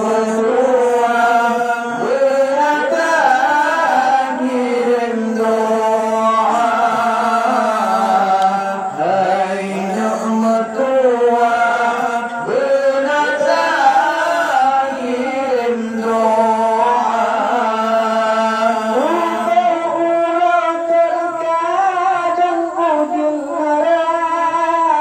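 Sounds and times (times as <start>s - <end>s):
man singing into microphone: 0.0s - 25.0s.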